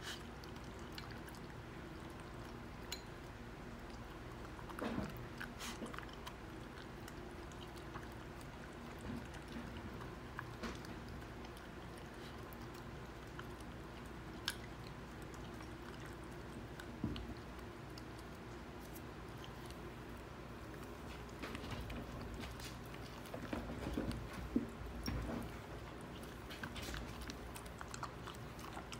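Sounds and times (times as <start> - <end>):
dog crunching kibble: 3.6 - 28.9.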